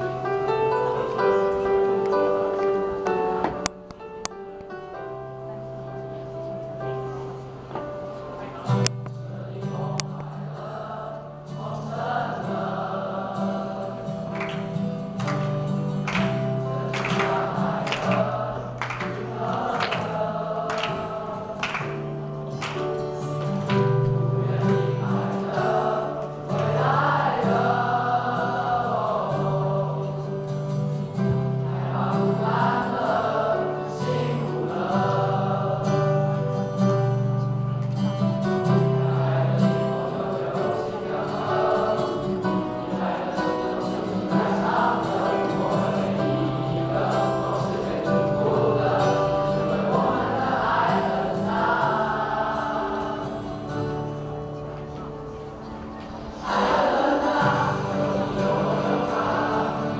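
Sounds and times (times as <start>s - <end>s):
low accompanying chords: 0.0s - 59.9s
mixed choir singing pop song: 7.4s - 54.5s, 56.0s - 59.9s.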